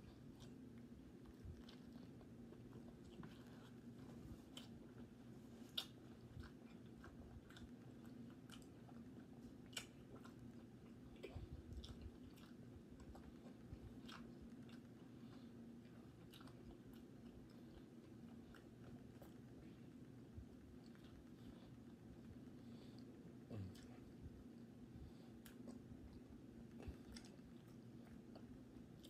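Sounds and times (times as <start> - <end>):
person chewing: 0.0 - 19.7, 20.7 - 22.2, 25.3 - 29.0
low steady hum: 0.0 - 29.0.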